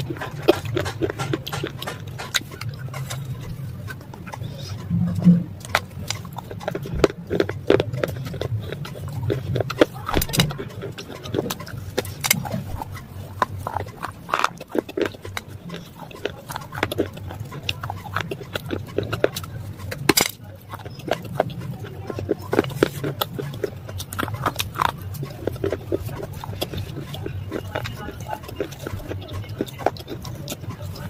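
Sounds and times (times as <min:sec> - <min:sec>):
crunching and chewing: 0:00.0 - 0:31.0.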